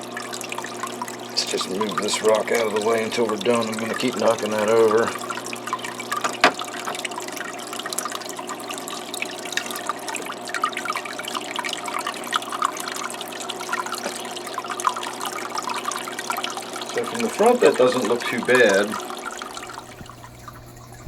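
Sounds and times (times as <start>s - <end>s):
aquarium waterfall trickling: 0.0s - 21.0s.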